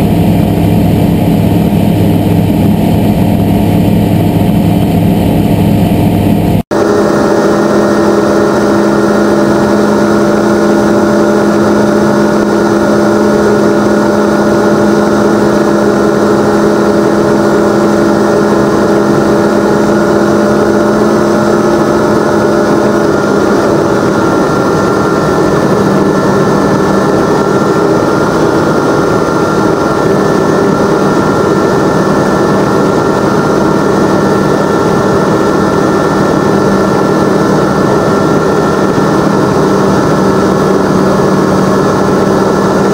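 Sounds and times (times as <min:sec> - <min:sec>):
propeller engine running: 0:00.0 - 0:42.9.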